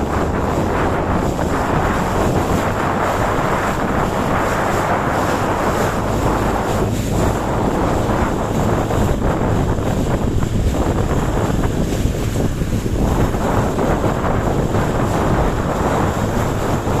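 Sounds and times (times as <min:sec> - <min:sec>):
water rushing against boat: 0:00.0 - 0:17.0
wind buffeting microphone: 0:00.0 - 0:17.0.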